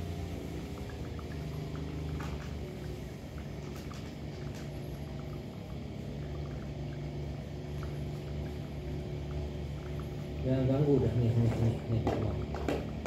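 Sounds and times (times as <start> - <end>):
steady low hum: 0.0 - 13.0
cats chewing and licking: 0.6 - 13.0.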